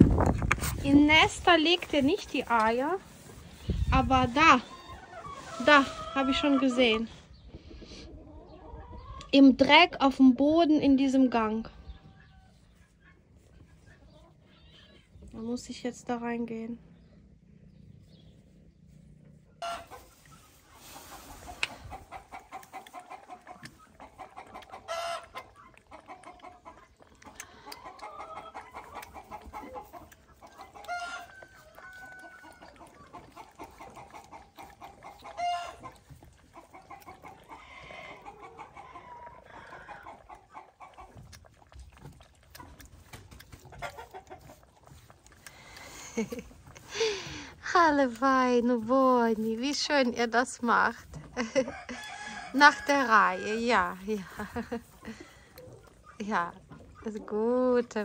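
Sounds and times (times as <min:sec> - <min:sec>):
hens clucking: 0:00.0 - 0:09.4, 0:19.6 - 0:58.0.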